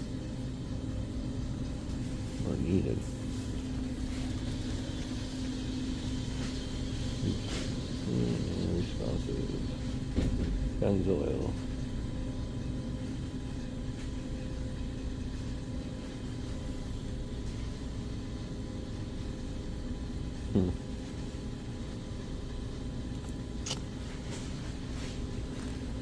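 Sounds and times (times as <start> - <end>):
steady low hum with tones: 0.0 - 26.0.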